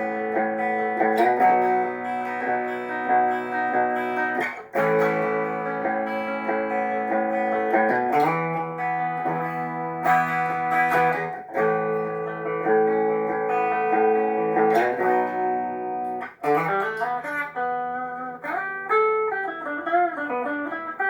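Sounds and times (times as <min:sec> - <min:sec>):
electric guitar chords ringing: 0:00.0 - 0:21.0.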